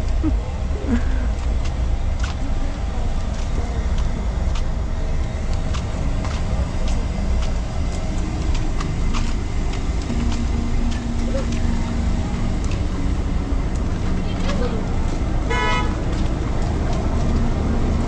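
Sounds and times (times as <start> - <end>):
street noise rumble: 0.0 - 18.0.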